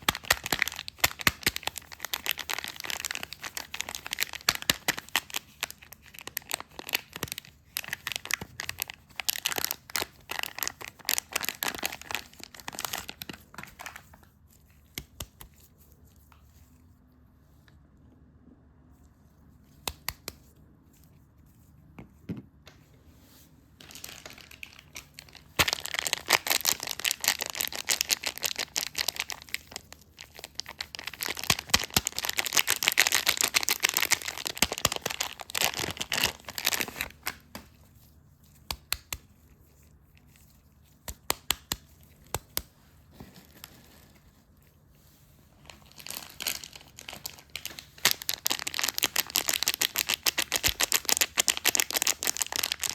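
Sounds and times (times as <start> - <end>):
wrapping crinkling: 0.0 - 17.0, 23.7 - 52.9.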